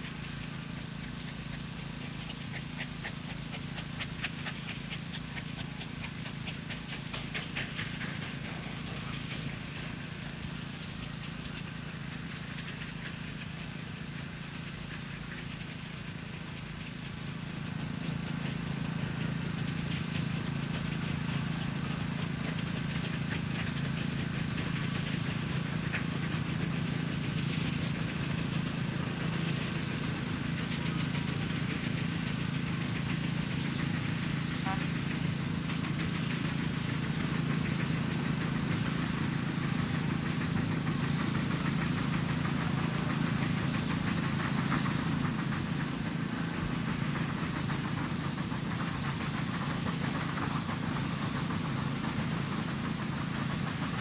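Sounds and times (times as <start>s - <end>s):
steam engine running: 0.0s - 54.0s
steam hissing: 0.0s - 54.0s.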